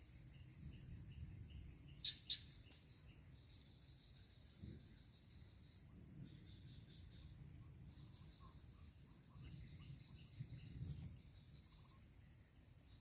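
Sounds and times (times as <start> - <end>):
crickets and insects droning: 0.0 - 13.0
short insect chirps: 0.0 - 13.0.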